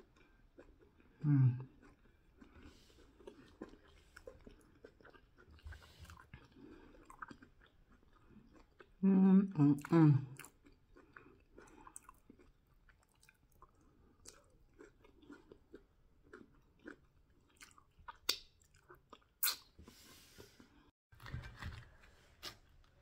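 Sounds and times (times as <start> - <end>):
person chewing food: 0.0 - 9.0, 9.8 - 20.9.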